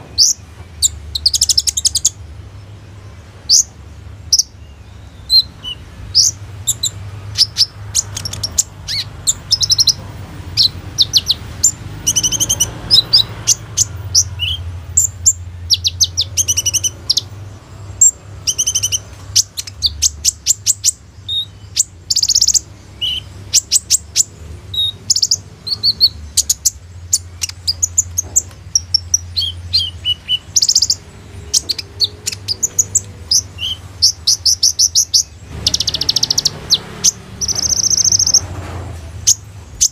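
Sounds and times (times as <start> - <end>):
bird singing high chips and trills: 0.0 - 38.5, 39.2 - 39.9.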